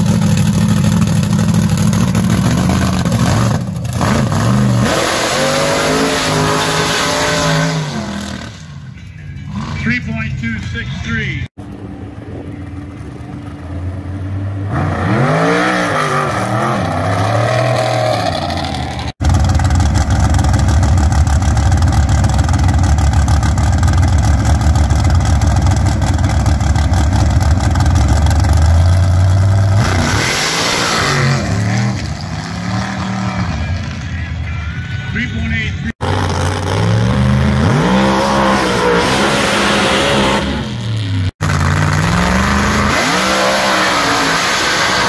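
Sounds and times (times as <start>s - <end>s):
race engine revving: 0.0s - 8.7s, 14.4s - 20.4s, 21.4s - 34.1s, 35.1s - 45.0s
buggy launching at full throttle: 0.0s - 8.8s, 14.6s - 34.0s, 35.9s - 45.0s
buggy engine rumbling: 0.0s - 45.0s.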